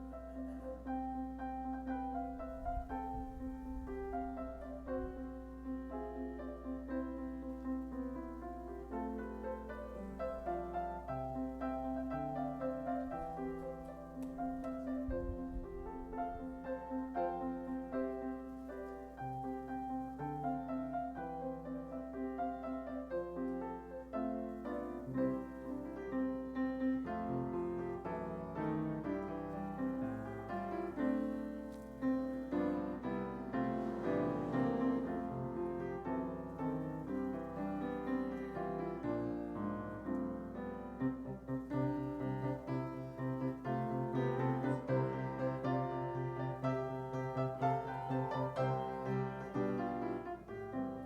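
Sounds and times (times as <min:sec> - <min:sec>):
solo piano playing: 0:00.0 - 0:51.0.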